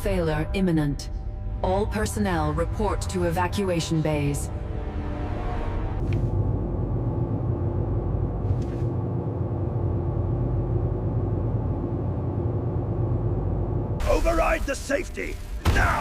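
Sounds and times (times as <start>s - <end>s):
low rumble and hum: 0.0s - 16.0s.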